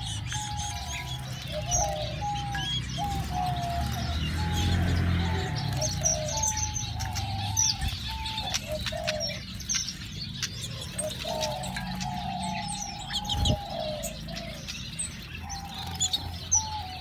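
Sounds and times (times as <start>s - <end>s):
low cooing notes: 0.0s - 9.5s, 10.7s - 17.0s
high finch chirps: 0.0s - 17.0s.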